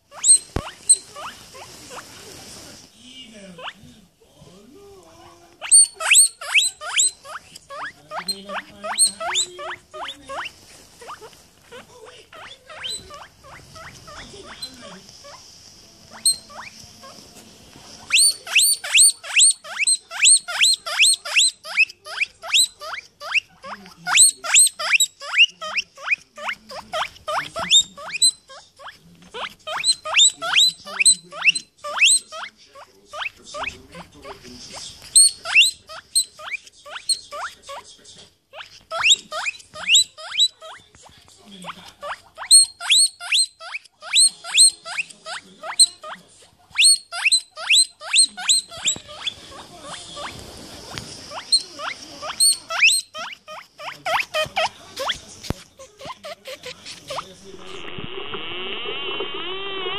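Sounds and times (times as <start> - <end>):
guinea pig wheeking: 0.0 - 2.7, 3.6 - 3.9, 5.2 - 17.3, 18.0 - 37.9, 38.5 - 59.9.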